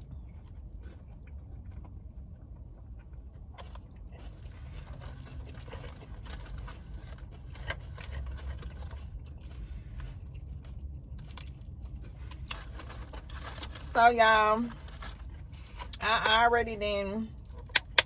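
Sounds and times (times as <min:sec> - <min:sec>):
chewing crunchy fries: 0:00.0 - 0:16.5, 0:17.3 - 0:18.0
low steady rumble: 0:00.0 - 0:18.0.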